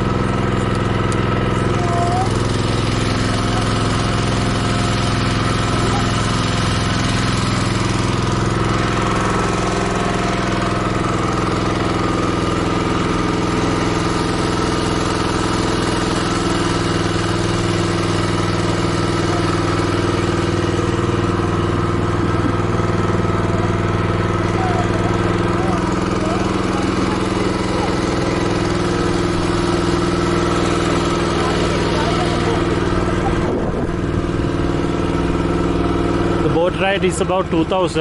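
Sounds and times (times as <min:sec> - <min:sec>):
motorboat engine droning: 0:00.0 - 0:38.0.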